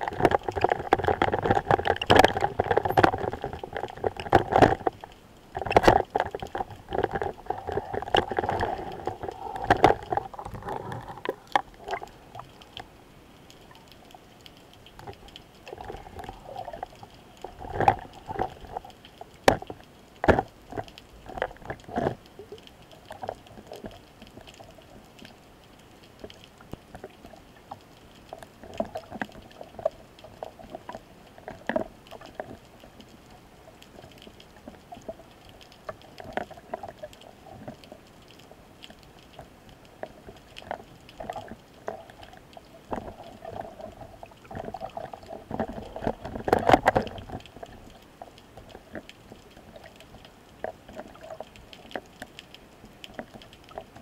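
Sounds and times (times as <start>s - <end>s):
underwater clicks and knocks: 0.0s - 12.9s, 13.5s - 54.0s
rush of moving water: 0.0s - 54.0s.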